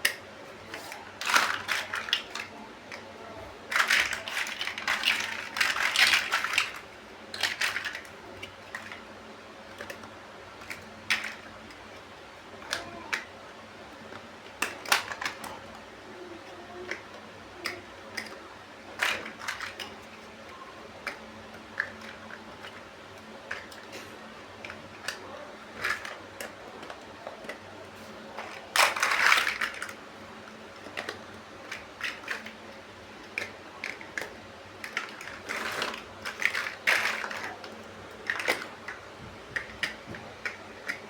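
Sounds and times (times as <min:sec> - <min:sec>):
plastic bricks clicking and rattling: 0:00.0 - 0:41.0.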